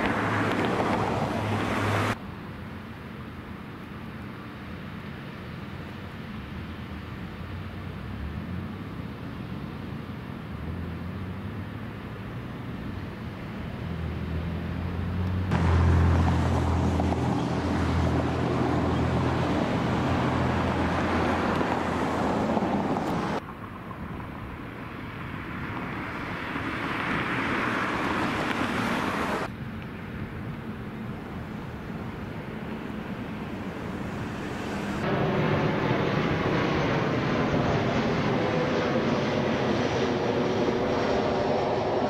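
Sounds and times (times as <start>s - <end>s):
vehicle engines rumbling: 0.0s - 2.2s, 6.4s - 42.0s
rushing traffic noise: 0.0s - 42.0s.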